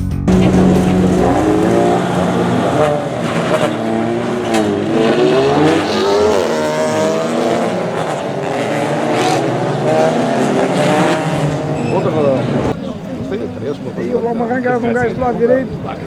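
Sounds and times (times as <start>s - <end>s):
racing car engines at high revs: 0.3s - 13.7s.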